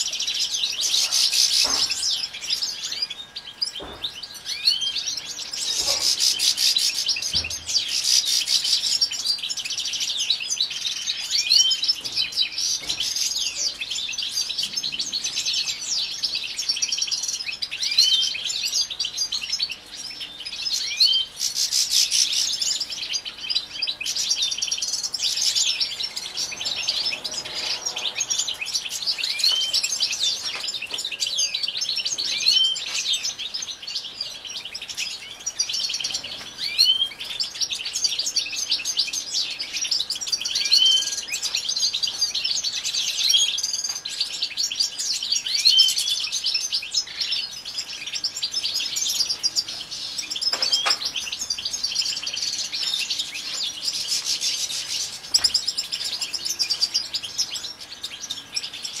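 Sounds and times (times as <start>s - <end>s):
goldfinch twittering song: 0.0s - 59.0s.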